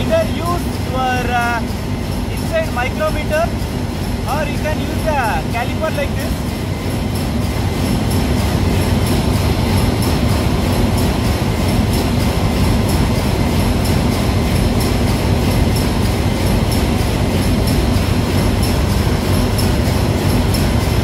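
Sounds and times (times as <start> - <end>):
machinery drone: 0.0 - 21.0.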